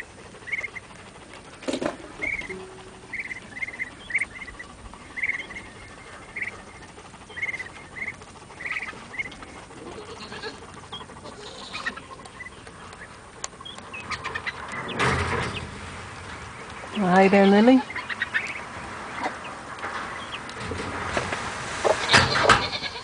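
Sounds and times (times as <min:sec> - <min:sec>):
ducklings peeping: 0:00.0 - 0:20.6.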